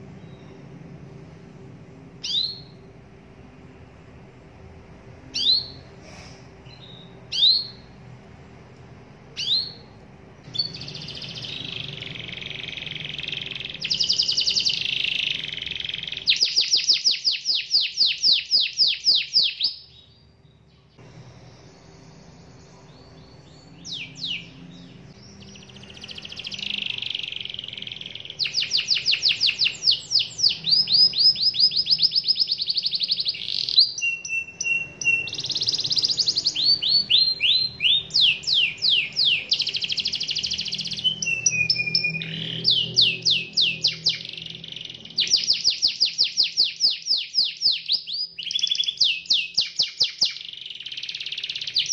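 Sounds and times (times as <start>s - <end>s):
canary singing trills: 0.0s - 1.0s, 2.2s - 3.0s, 5.2s - 8.1s, 9.3s - 51.9s.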